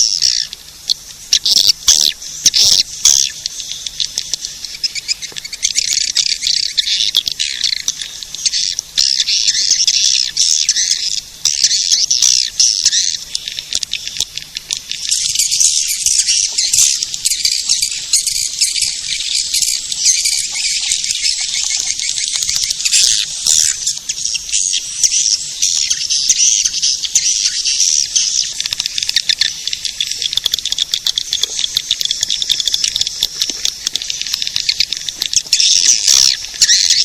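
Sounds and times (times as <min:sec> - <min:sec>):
swiftlets twittering: 0:01.3 - 0:37.0.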